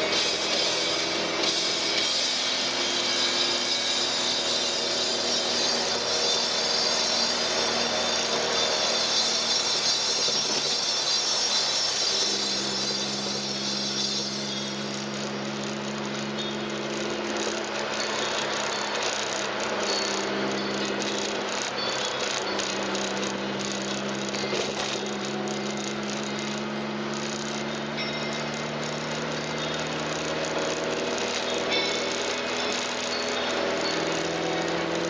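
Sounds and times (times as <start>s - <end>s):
car engine running: 0.0s - 35.0s
road and wind noise: 0.0s - 35.0s.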